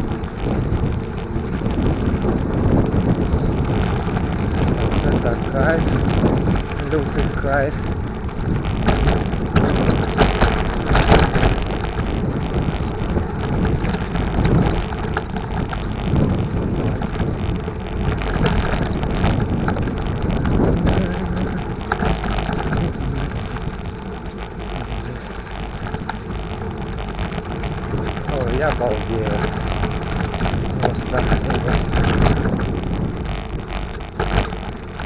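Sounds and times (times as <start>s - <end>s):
bicycle knocks and rattles: 0.0s - 35.0s
bicycle tyre noise: 0.0s - 35.0s
wind buffeting microphone: 0.0s - 35.0s.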